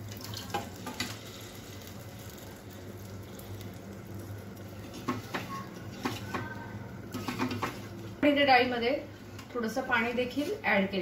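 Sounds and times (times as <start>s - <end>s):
dal sizzling and bubbling in pot: 0.0s - 11.0s.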